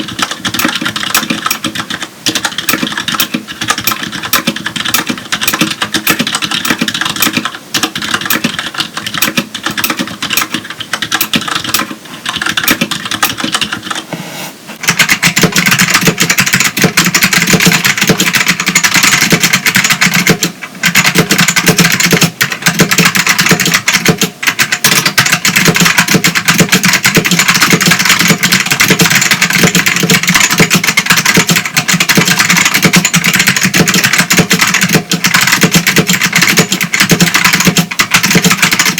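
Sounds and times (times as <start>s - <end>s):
typing on a quiet keyboard: 0.0s - 14.0s, 14.8s - 38.9s
loud clicky keyboard typing: 0.0s - 14.1s, 14.8s - 38.9s.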